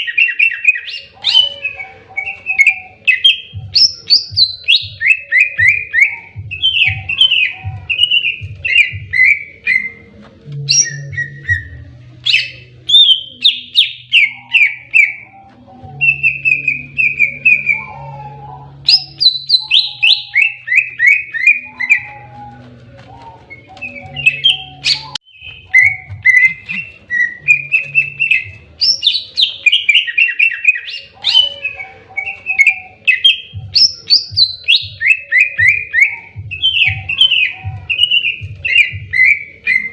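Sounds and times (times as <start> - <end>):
bird singing fast chirps: 0.0 - 22.6, 23.2 - 39.9.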